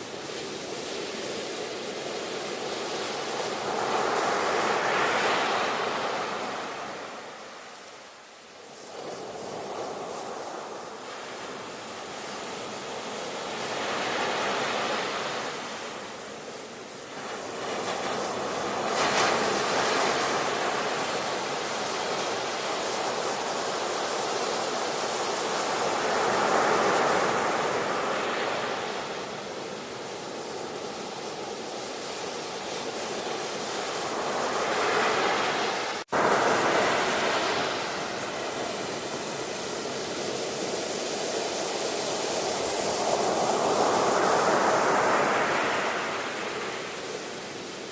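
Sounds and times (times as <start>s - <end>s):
ocean waves breaking: 0.0s - 8.0s, 8.6s - 47.9s.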